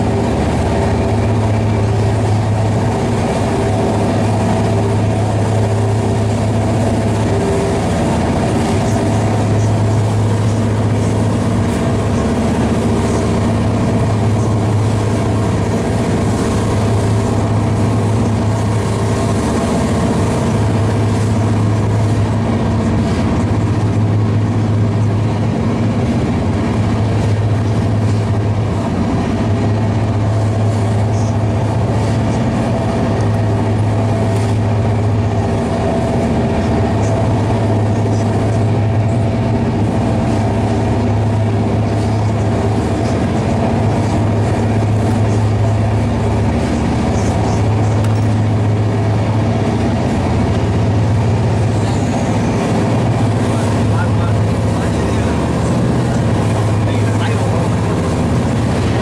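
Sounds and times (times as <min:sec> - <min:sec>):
constant deep hum: 0:00.0 - 0:59.0.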